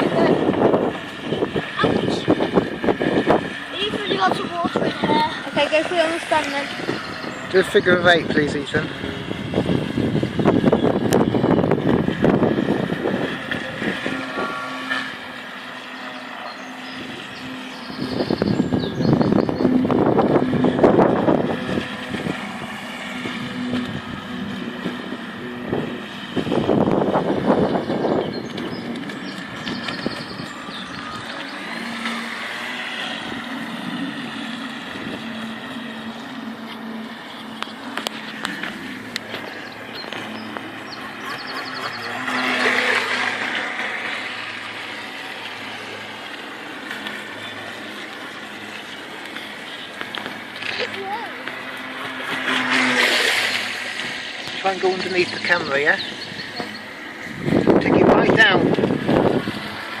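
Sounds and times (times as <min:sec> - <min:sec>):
model boat motor running: 0:00.0 - 1:00.0
wind buffeting microphone: 0:00.0 - 1:00.0.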